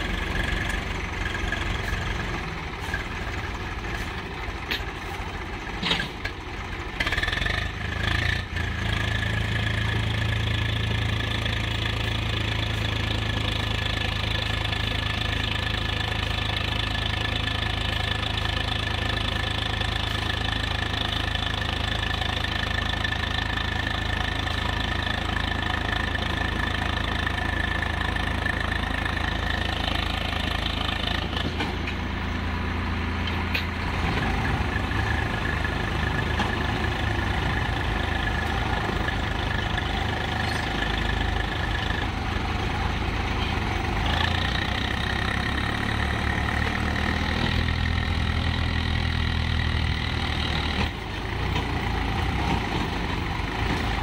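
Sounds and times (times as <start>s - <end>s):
tractor diesel engine straining: 0.0s - 54.0s.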